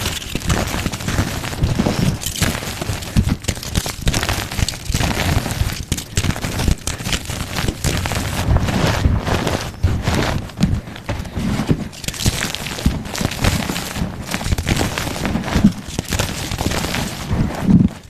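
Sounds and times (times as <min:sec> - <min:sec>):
chalk being crushed: 0:00.0 - 0:18.0.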